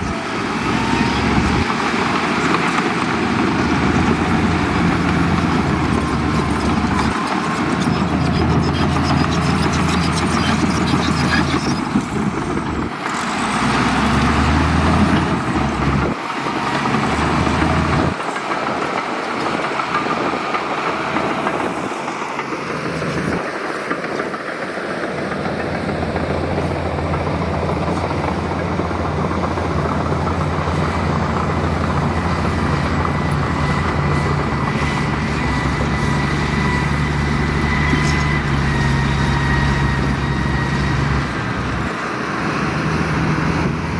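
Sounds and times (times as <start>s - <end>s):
heavy diesel machinery running: 0.0s - 43.9s.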